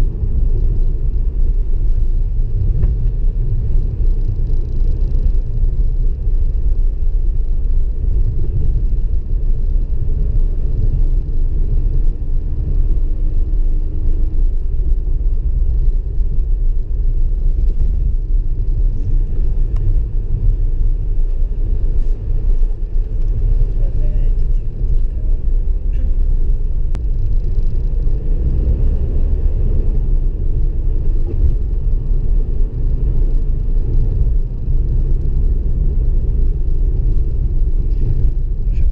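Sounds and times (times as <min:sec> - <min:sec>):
car interior rumble: 0:00.0 - 0:38.9.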